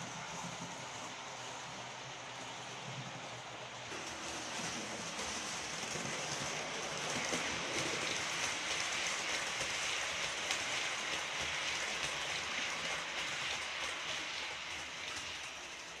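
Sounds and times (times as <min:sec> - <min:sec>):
model train wheels on rails: 0:00.0 - 0:16.0.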